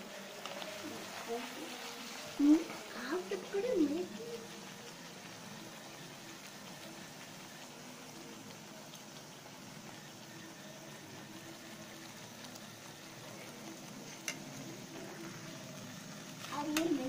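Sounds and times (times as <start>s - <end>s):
dough deep-frying in oil: 0.0s - 17.0s.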